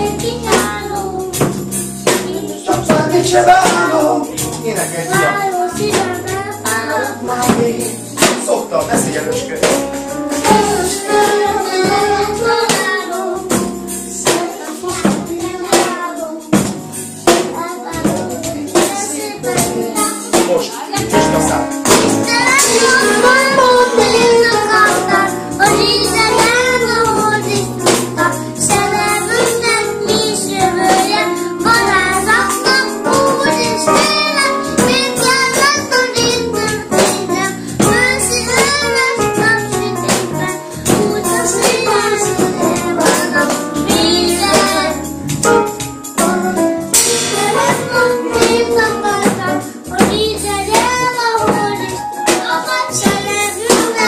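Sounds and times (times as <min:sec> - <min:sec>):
person singing a melody: 0:00.0 - 0:09.6, 0:17.4 - 0:54.0
backing track with bass: 0:00.0 - 0:54.0
jingling percussion: 0:00.0 - 0:54.0.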